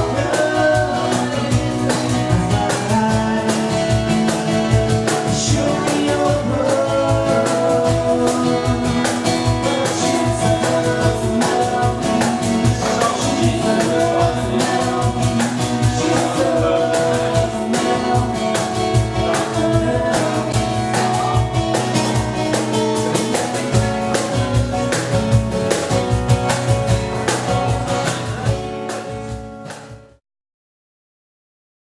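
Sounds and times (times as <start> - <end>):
acoustic guitar strumming: 0.0 - 30.2.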